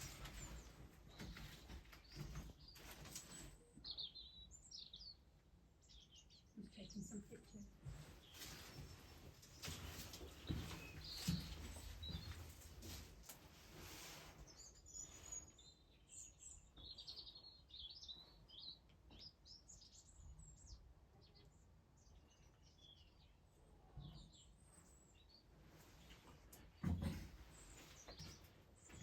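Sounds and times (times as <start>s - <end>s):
faint birdsong chirps and trills: 0.0s - 29.0s.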